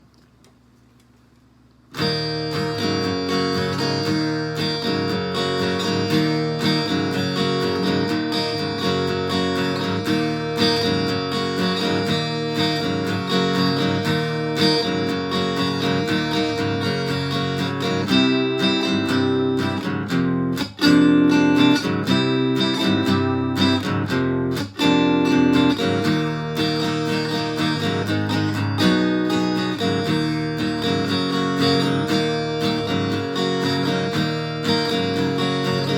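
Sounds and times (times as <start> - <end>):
distorted acoustic guitar strumming: 1.9 - 35.9.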